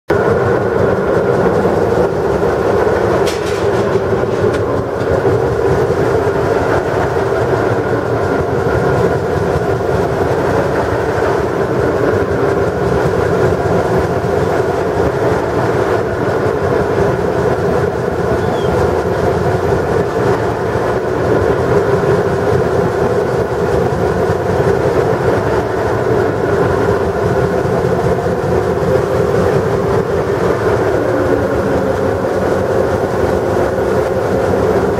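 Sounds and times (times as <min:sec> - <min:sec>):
diesel locomotive engine running: 0:00.1 - 0:34.9.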